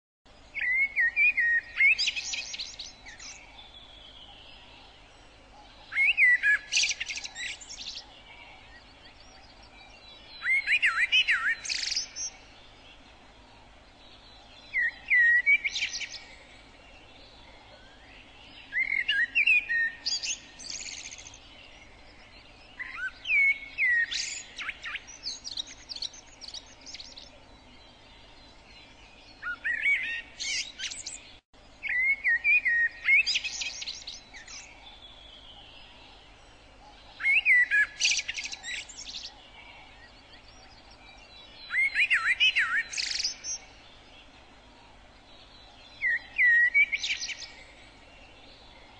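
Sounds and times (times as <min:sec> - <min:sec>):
songbird singing: 0:00.3 - 0:48.9.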